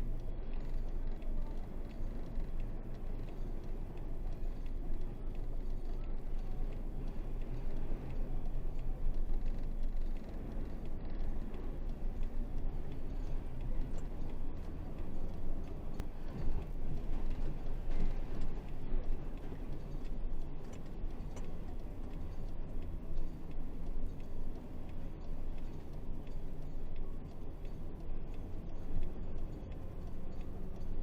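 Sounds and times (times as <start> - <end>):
light ticks and rattles: 0.0 - 31.0.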